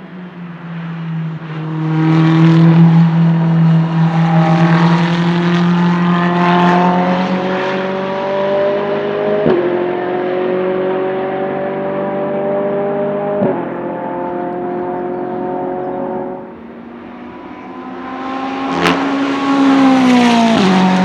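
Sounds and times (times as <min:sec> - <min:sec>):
race car engine accelerating: 0:00.0 - 0:21.0.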